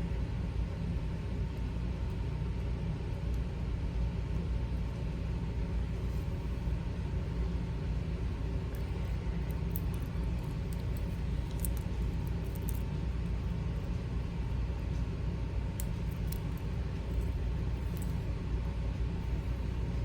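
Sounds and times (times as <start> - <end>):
faint steady hum: 0.0 - 20.0
low background rumble: 0.0 - 20.0.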